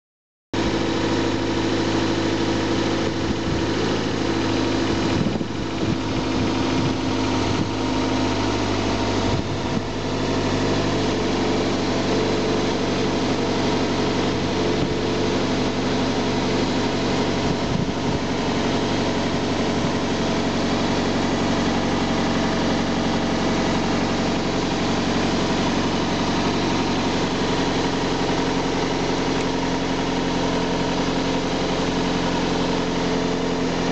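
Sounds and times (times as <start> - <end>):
car engine idling: 0.6 - 33.9.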